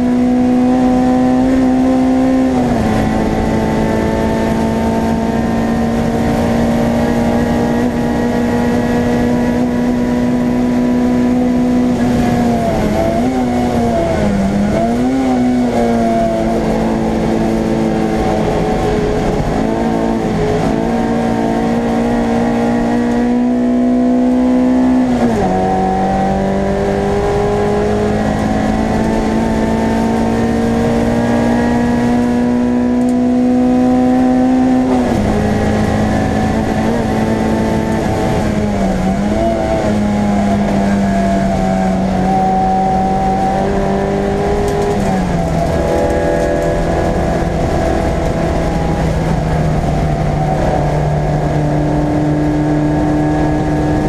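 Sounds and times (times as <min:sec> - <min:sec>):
race car engine revving hard: 0:00.0 - 0:54.0.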